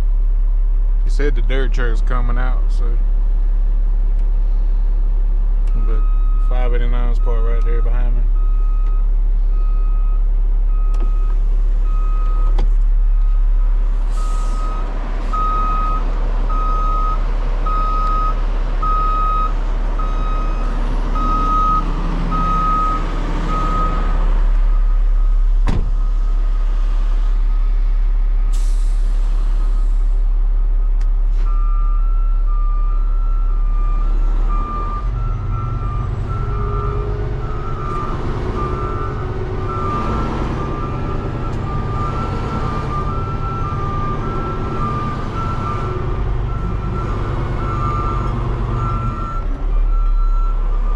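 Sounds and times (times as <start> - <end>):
diesel truck engine idling: 0.0 - 50.9
truck backup alarm beeping: 5.6 - 27.8, 28.5 - 50.9.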